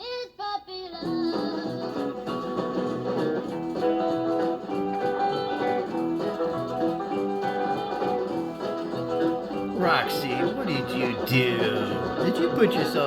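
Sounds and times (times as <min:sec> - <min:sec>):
plucked guitar tune: 0:01.0 - 0:13.0.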